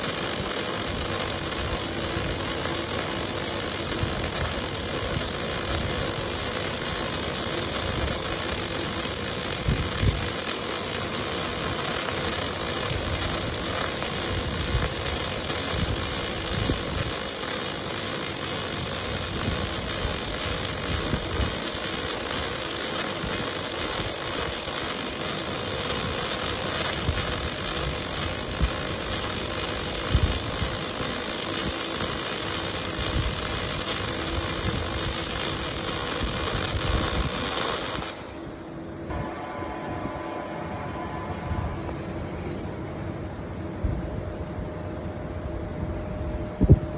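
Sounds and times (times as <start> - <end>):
welding machine hiss: 0.0 - 38.6.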